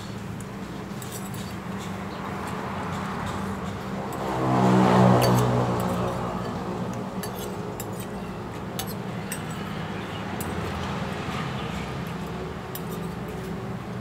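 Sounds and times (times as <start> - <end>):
cutlery clinking against a plate: 0.0 - 4.3, 5.2 - 10.9, 12.0 - 13.6.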